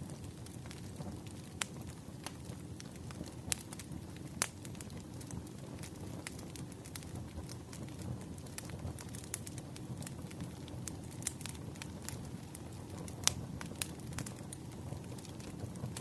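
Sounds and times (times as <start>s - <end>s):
fire crackles and pops: 0.0s - 16.0s
wood fire rumbling: 0.0s - 16.0s.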